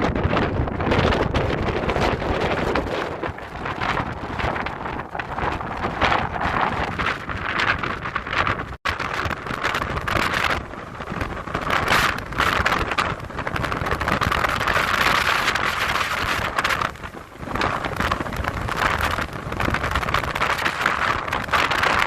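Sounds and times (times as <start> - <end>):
wind gusting across microphone: 0.0 - 22.0.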